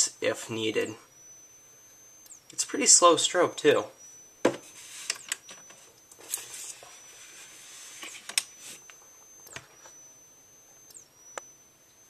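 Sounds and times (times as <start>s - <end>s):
high-pitched electronic whine: 0.0s - 12.0s.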